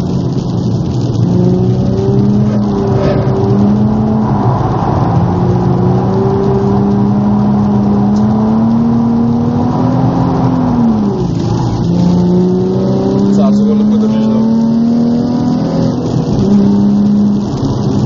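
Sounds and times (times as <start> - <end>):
car engine heard from cabin: 0.0 - 18.0.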